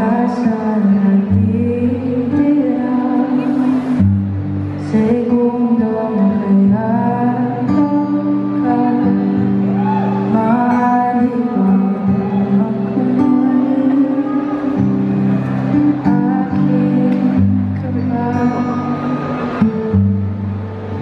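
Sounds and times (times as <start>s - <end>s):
woman singing a slow ballad: 0.0s - 14.9s, 15.7s - 19.3s.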